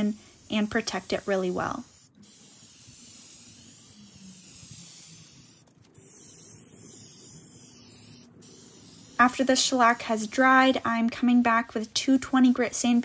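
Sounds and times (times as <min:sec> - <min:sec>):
aerosol spray can hissing: 0:00.0 - 0:13.0.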